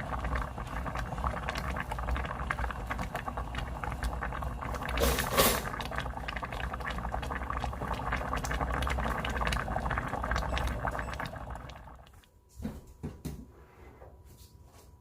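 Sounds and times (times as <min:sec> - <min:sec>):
food bubbling and crackling: 0:00.0 - 0:12.3.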